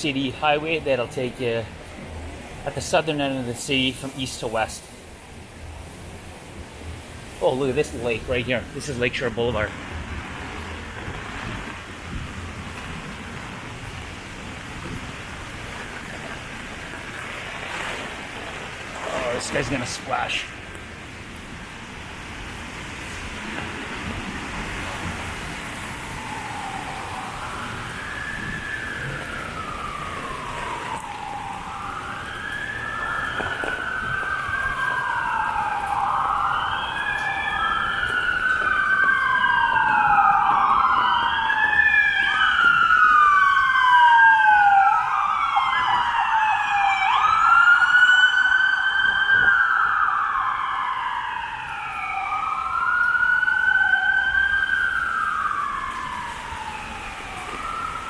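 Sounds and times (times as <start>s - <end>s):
emergency vehicle sirens wailing: 0.0s - 58.0s.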